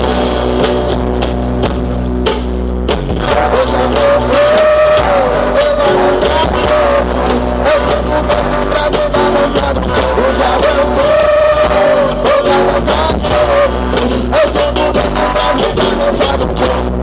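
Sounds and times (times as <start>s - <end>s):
live stage music with steady beat: 0.0s - 17.0s.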